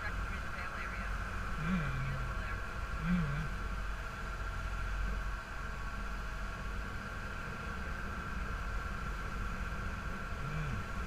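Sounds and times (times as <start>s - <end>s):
motor boat engine: 0.0s - 11.0s.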